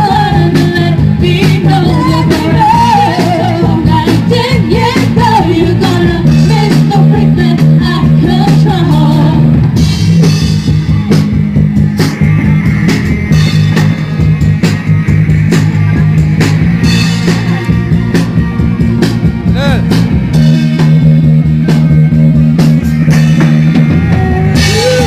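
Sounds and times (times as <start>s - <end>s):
bass notes: 0.0s - 25.0s
drum kit beat: 0.0s - 25.0s
electric guitar: 0.0s - 25.0s.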